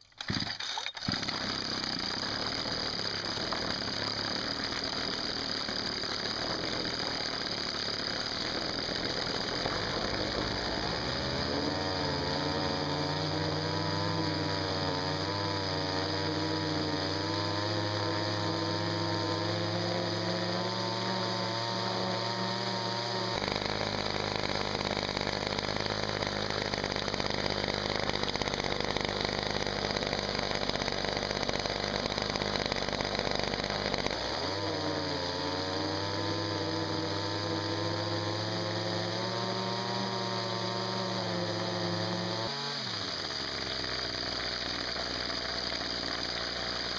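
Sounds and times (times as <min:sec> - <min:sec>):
two-stroke engine running hard: 0:00.2 - 0:46.9.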